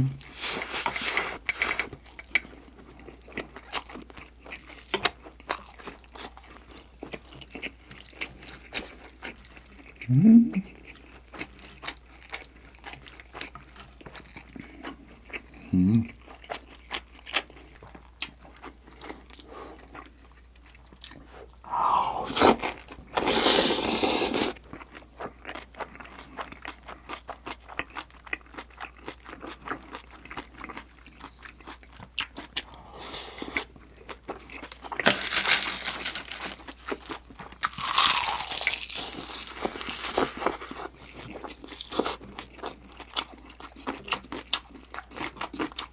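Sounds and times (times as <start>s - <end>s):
person chewing and crunching food: 0.0s - 45.9s.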